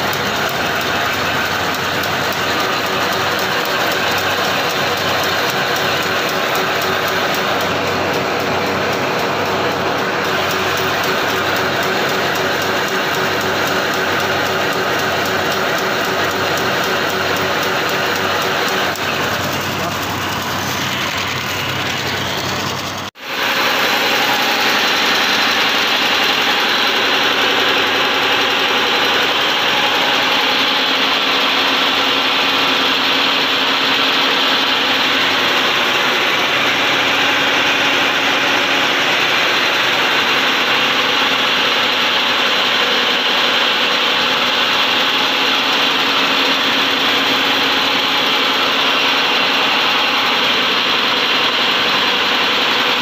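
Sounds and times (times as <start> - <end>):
packing machine whirring hum: 0.0 - 53.0.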